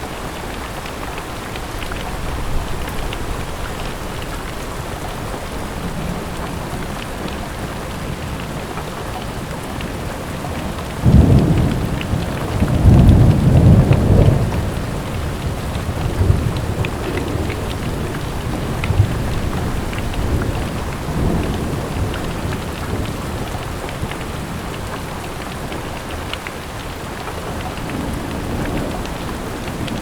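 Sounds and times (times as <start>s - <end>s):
steady rain: 0.0s - 30.0s
low rumble of thunder: 1.7s - 26.2s.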